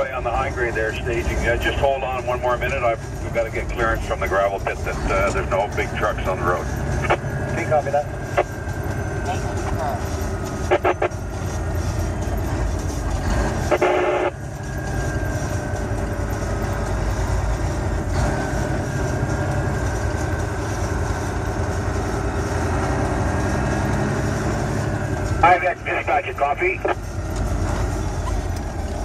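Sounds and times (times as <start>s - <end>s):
truck engine drone: 0.0s - 29.0s
tyres on snowy road: 0.0s - 29.0s.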